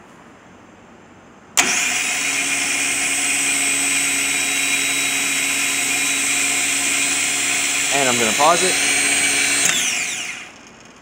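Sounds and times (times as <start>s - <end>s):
electric motor whine: 1.6s - 10.6s.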